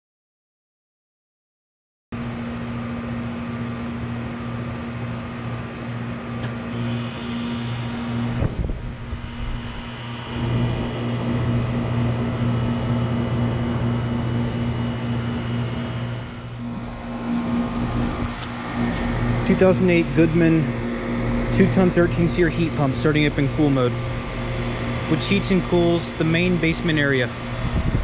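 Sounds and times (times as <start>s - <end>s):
heat pump humming with fan: 2.2s - 28.0s.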